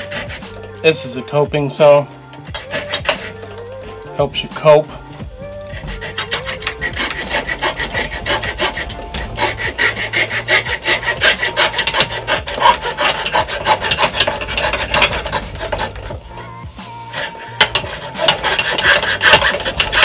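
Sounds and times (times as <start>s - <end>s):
hand saw cutting wood: 0.0s - 20.0s.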